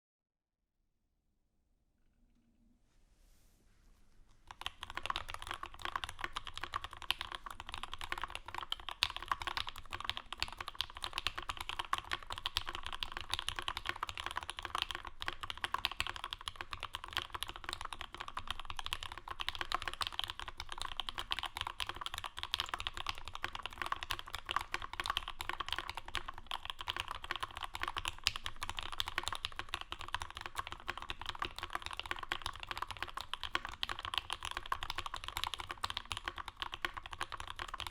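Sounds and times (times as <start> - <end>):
fast mechanical keyboard typing: 4.5 - 37.9.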